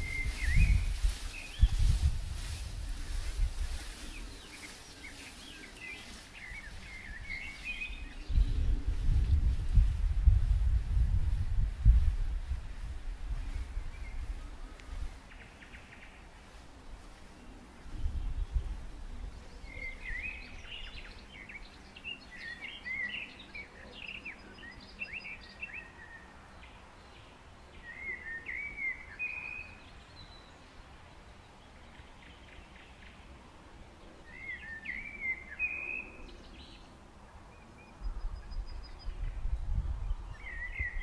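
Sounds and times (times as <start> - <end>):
songbirds singing: 0.0 - 10.4, 12.8 - 41.0
faint outdoor hiss: 0.0 - 41.0.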